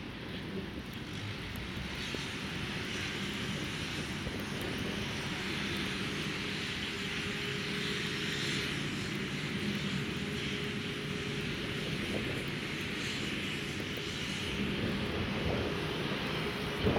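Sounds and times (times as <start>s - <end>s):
tyres hissing through wet snow: 0.1s - 16.9s.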